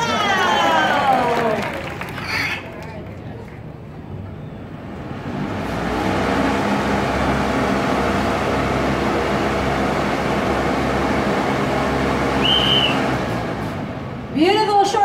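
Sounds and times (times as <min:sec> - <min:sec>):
large fan blowing: 0:00.0 - 0:15.0.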